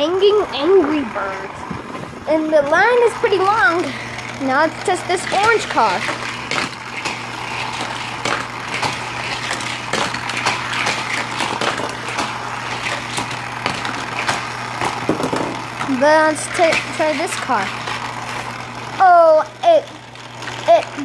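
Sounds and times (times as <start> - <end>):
toy track booster whirring: 0.0 - 21.0
toy cars rattling on plastic track: 2.3 - 21.0.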